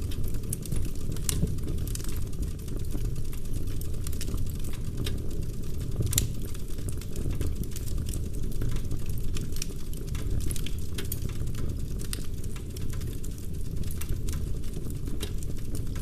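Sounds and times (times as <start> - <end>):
burning logs crackling and popping: 0.0 - 16.0
fire flames rumbling: 0.0 - 16.0.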